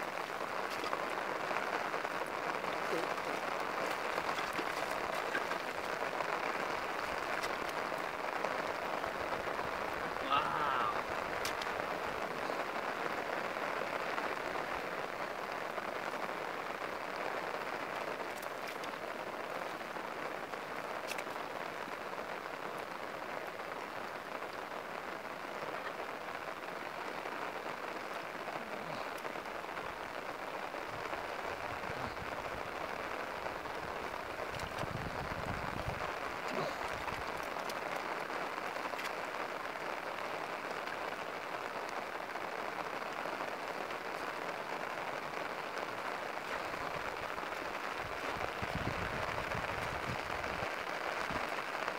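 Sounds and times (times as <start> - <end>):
rain falling on grass and water: 0.0 - 51.9.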